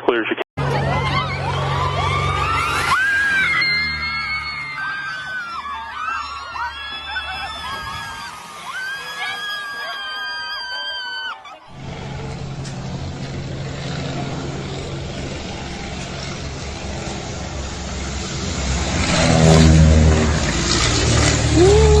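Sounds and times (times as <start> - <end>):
engine humming: 0.6 - 9.1, 11.6 - 22.0.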